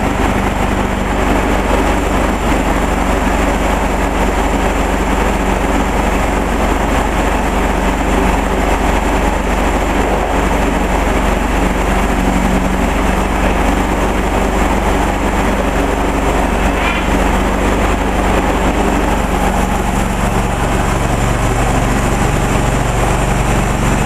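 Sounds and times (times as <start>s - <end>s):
sawmill engine drone: 0.0s - 24.0s.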